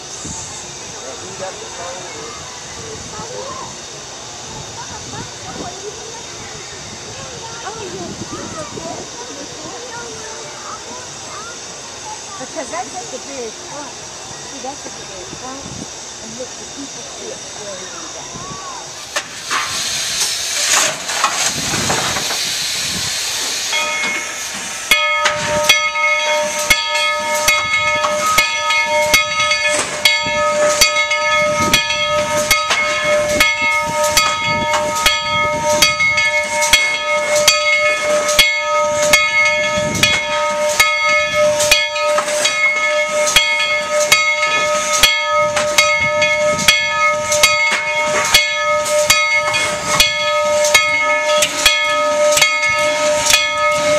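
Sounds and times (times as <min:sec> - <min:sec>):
loud steam hiss: 0:00.0 - 0:53.9
multi-tone steam whine: 0:00.0 - 0:53.9
steam locomotive chuffing: 0:00.0 - 0:53.9.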